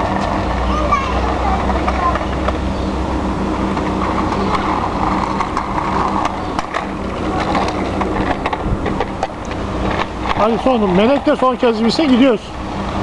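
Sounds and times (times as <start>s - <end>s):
scooter wheels rattling on concrete: 0.0s - 13.0s
steady low hum: 0.0s - 13.0s.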